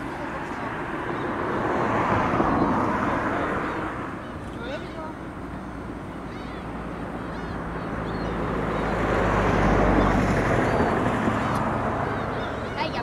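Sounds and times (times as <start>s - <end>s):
low engine hum: 0.0s - 13.0s
vehicle passing: 0.0s - 13.0s.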